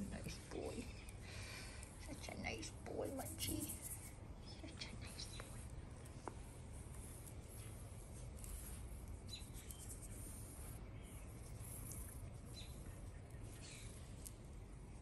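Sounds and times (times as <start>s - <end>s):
hand stroking cat fur: 0.0s - 13.0s.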